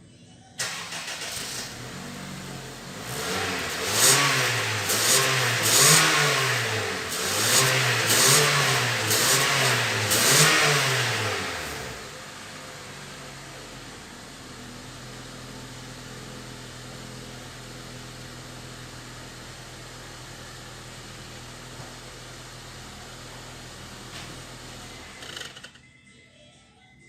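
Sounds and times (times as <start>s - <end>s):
car engine idling and revving: 0.6s - 25.7s.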